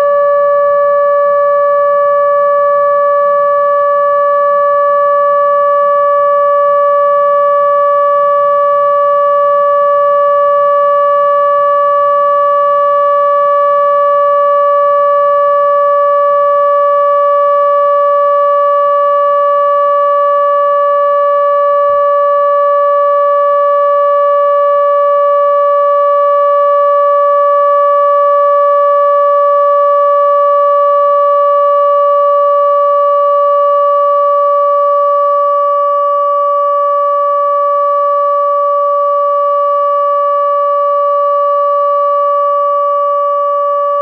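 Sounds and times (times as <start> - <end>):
steady warning siren: 0.0 - 44.0.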